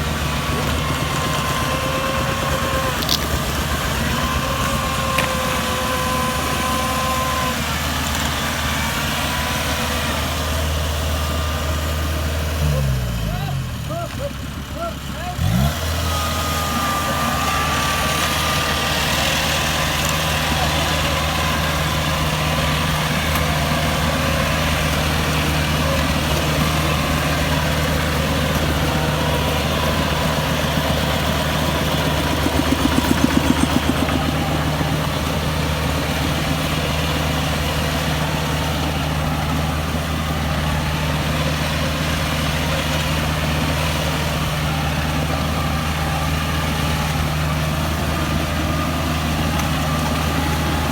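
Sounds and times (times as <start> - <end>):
combine harvester diesel engine: 0.0 - 50.9.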